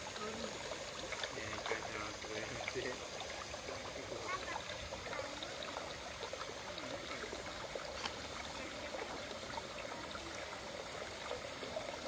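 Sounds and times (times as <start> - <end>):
running water pouring and trickling: 0.0 - 12.0.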